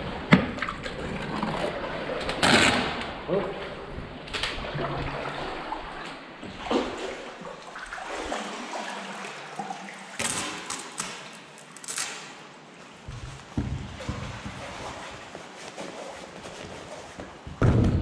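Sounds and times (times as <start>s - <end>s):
paddle strokes splashing: 0.0s - 11.8s, 12.5s - 17.6s
water splashing and trickling: 0.0s - 17.2s.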